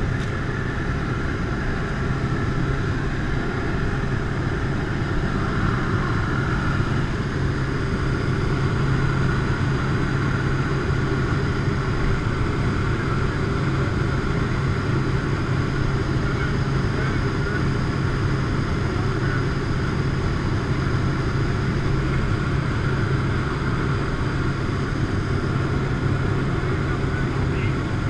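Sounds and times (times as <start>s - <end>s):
plane engines and propellers drone: 0.0s - 28.0s.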